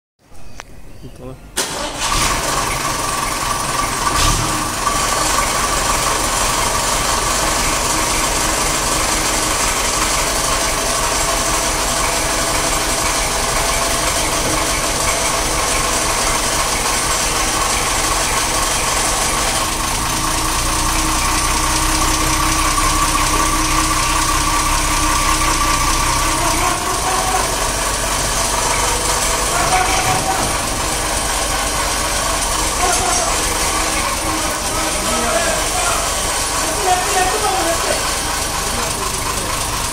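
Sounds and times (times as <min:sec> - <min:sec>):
truck engine running: 0:01.4 - 0:39.9
mechanical clatter: 0:01.6 - 0:39.9.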